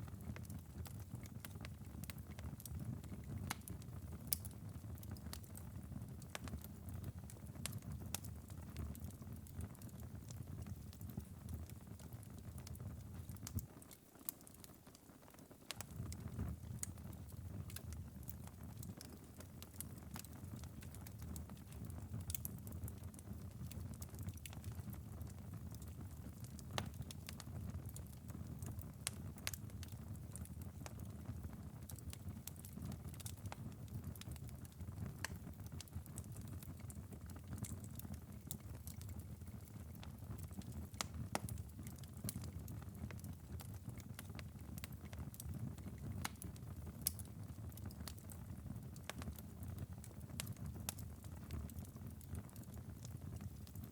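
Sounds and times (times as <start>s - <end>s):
fireplace embers crackling: 0.0s - 53.9s.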